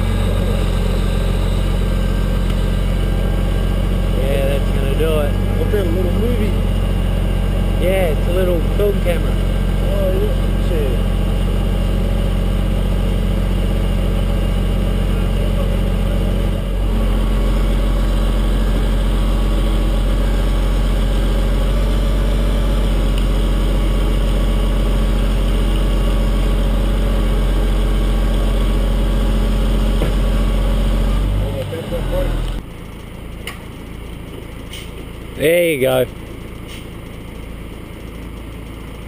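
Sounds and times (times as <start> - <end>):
heavy truck engine running: 0.0 - 39.0.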